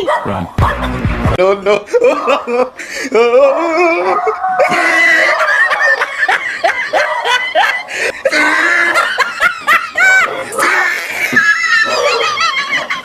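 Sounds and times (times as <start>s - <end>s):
people laughing hard: 0.6s - 13.0s.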